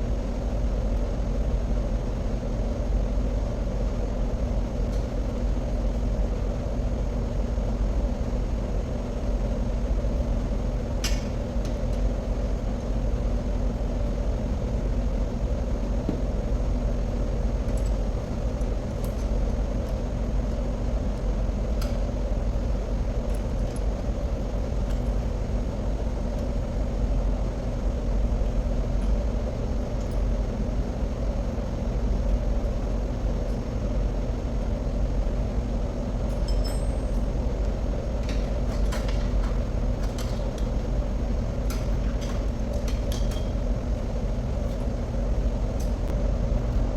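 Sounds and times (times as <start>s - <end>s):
machinery rumble and hum: 0.0s - 46.9s.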